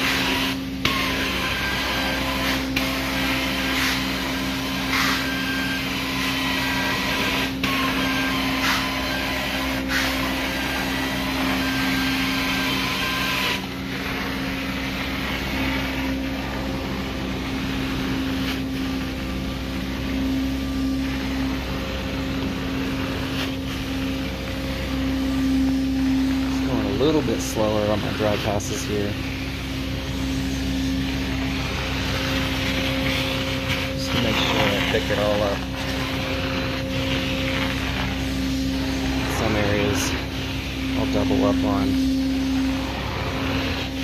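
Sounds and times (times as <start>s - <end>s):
carpet extraction wand suction: 0.0s - 16.1s, 22.8s - 44.0s.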